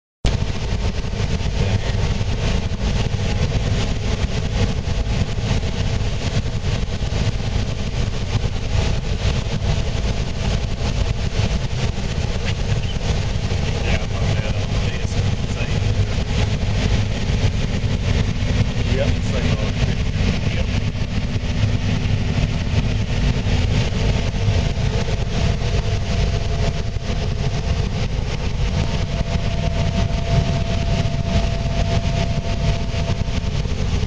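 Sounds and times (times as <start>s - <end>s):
combine engine drone from cab: 0.2s - 34.0s.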